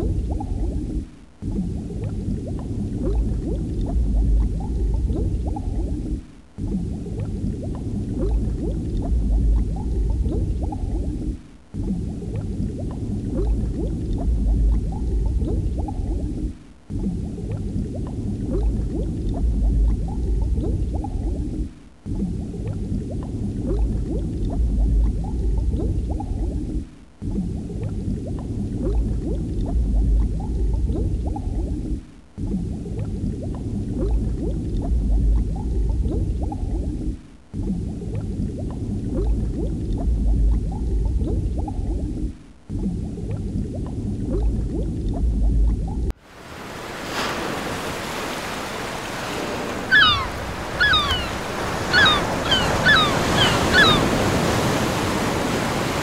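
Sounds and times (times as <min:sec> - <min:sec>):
underwater bubbling and gurgling: 0:00.0 - 0:56.0.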